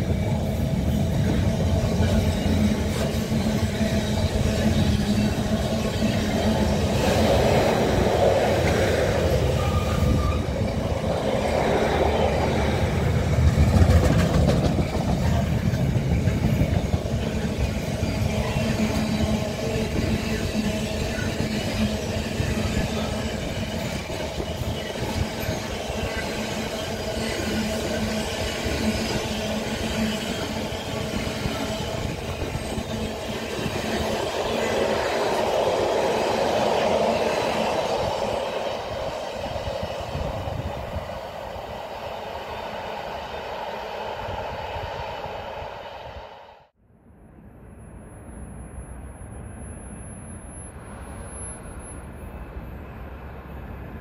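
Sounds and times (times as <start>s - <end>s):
train wagons rolling on rails: 0.0s - 46.2s.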